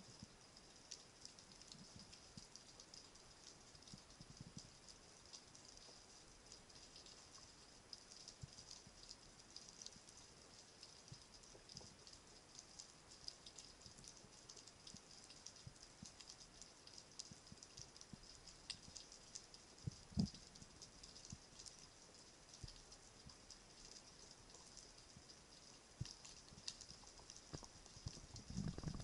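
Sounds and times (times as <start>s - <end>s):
snapping shrimp crackling underwater: 0.9s - 29.0s.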